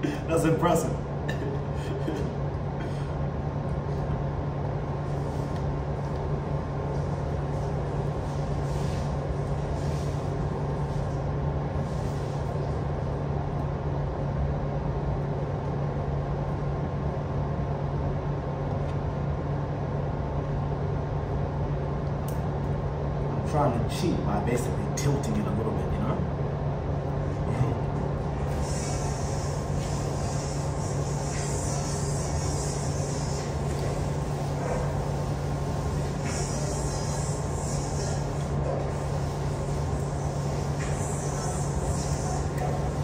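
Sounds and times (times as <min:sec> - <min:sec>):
machinery hum and rumble: 0:00.0 - 0:43.0.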